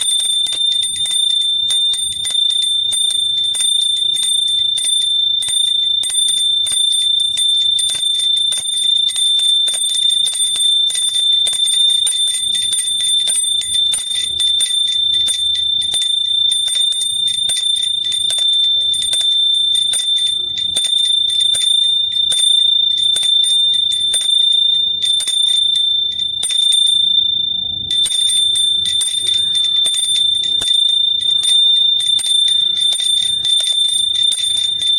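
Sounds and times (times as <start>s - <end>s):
small hand bell ringing: 0.0s - 34.9s.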